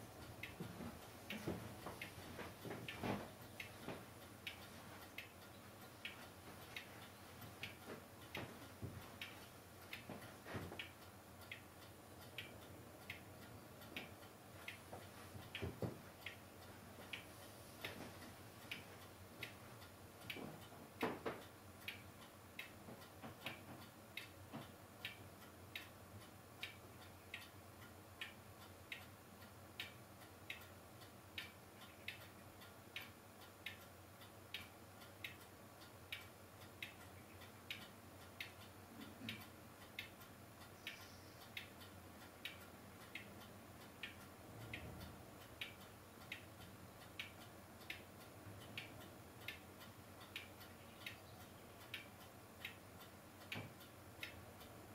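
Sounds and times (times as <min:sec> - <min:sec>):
faint regular ticking: 0:00.0 - 0:54.9
low steady hiss: 0:00.0 - 0:54.9.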